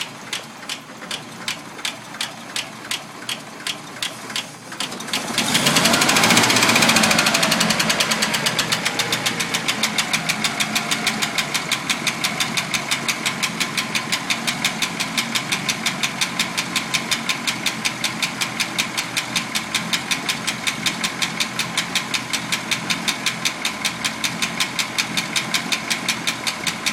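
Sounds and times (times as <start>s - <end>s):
car engine idling: 0.0s - 26.9s
engine lifter ticking: 0.0s - 26.9s.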